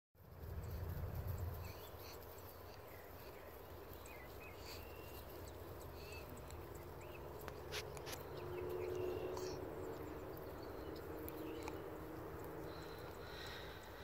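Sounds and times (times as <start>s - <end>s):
low wind rumble: 0.2s - 14.0s.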